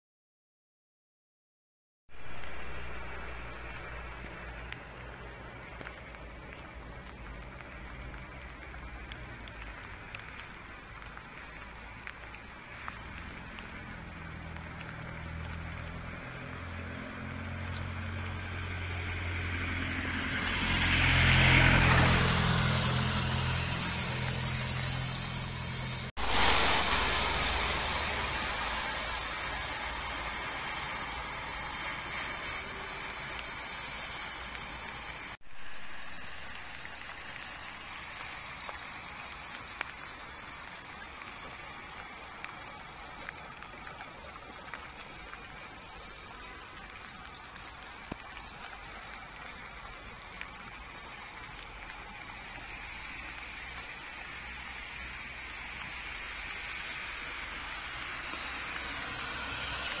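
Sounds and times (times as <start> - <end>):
rain hissing: 2.1 - 60.0
running water on street: 2.1 - 60.0.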